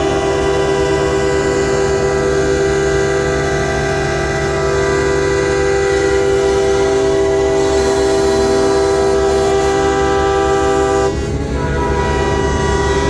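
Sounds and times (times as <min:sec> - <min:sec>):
truck air horns: 0:00.0 - 0:13.0.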